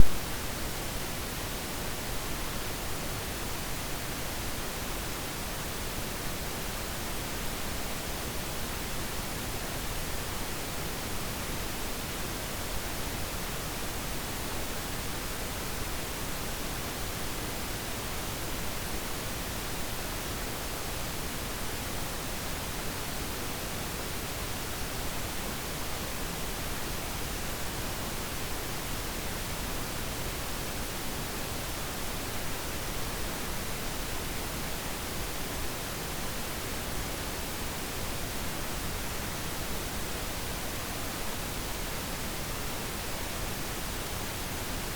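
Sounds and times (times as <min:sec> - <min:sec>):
pink noise hiss: 0:00.0 - 0:44.9.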